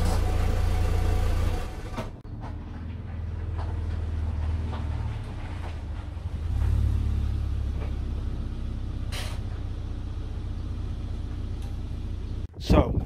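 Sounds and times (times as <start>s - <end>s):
car engine at low revs: 0.0s - 12.5s.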